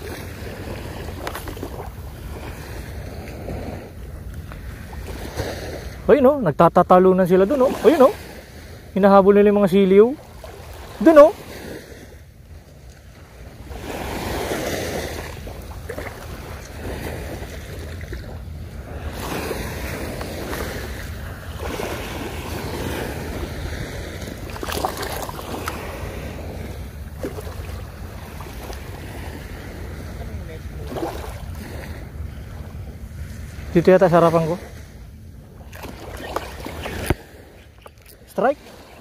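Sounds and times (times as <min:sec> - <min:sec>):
wind rumbling on microphone: 0:00.0 - 0:06.4, 0:07.1 - 0:39.0
small waves lapping on shore: 0:00.0 - 0:39.0.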